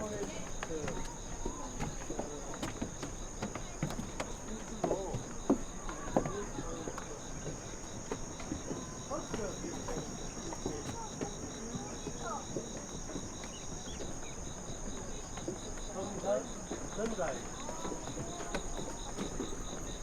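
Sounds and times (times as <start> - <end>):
distant voices: 0.0 - 20.0
insects chirring: 0.0 - 20.0.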